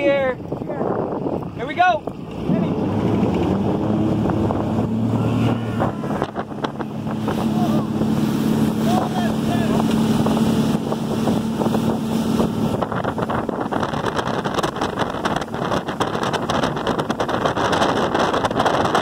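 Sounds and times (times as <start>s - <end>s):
motorboat engine hum: 0.0s - 19.0s
wake rushing: 0.0s - 19.0s
wind buffeting the microphone: 0.0s - 19.0s.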